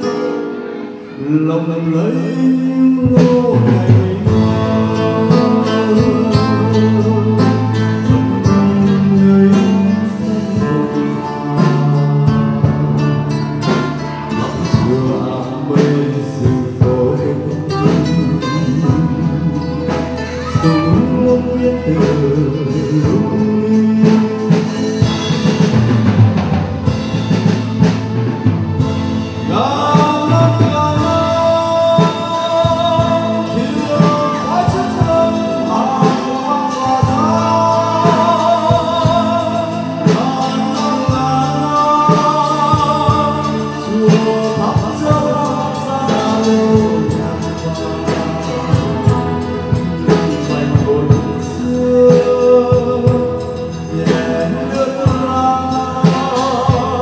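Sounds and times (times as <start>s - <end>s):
man singing into microphone: 0.0s - 27.0s, 29.2s - 57.0s
drums: 0.0s - 57.0s
electronic keyboard: 0.0s - 57.0s
guitar: 0.0s - 57.0s.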